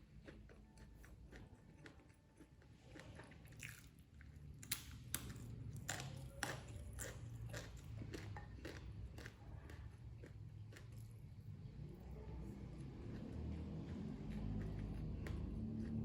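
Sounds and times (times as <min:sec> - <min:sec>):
person chewing crunchy food: 0:00.0 - 0:11.5, 0:12.6 - 0:16.0.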